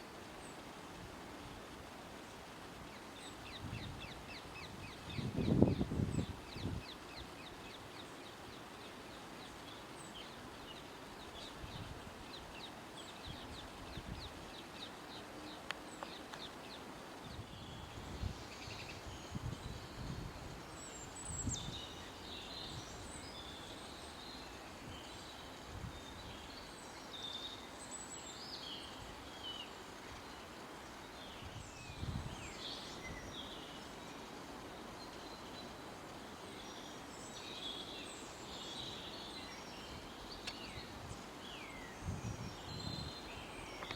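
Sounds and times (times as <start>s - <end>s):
steady background hiss: 0.0s - 43.9s.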